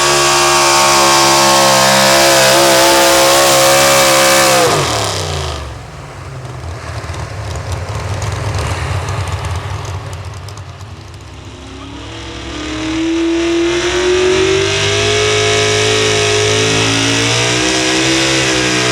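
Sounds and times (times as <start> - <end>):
truck engine at high revs: 0.0 - 18.9.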